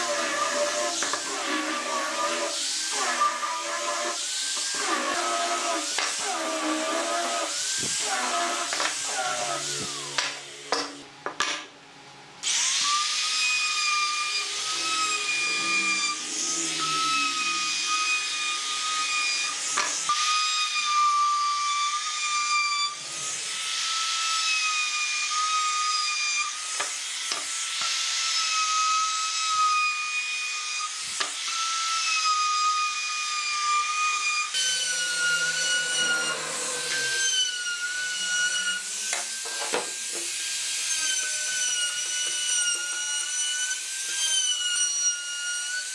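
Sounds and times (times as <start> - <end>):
router motor whining cutting wood: 0.0 - 11.1, 12.4 - 45.9.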